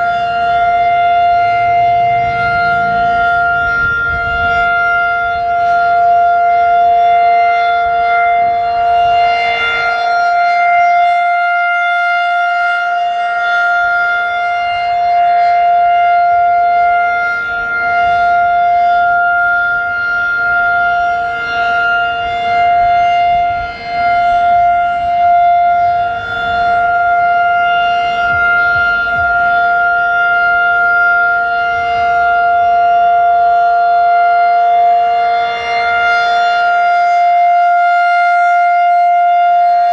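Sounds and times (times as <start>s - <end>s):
outdoor warning siren chord: 0.0s - 39.9s
wind rumble on microphone: 0.0s - 39.9s.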